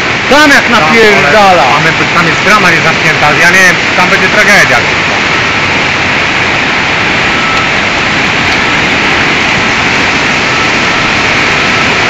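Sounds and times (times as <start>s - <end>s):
rushing water roar: 0.0s - 12.0s.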